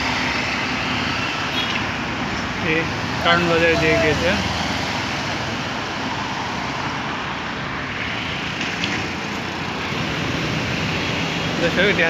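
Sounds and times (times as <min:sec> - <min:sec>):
passing cars hum: 0:00.0 - 0:12.0.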